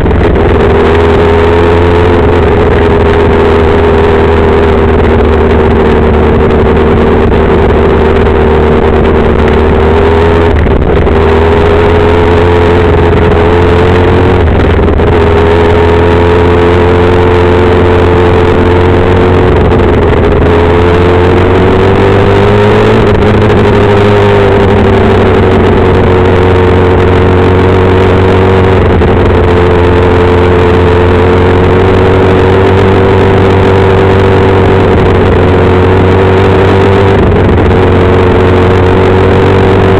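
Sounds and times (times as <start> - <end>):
engine running at high revs: 0.0 - 39.9
road and wind noise: 0.0 - 39.9.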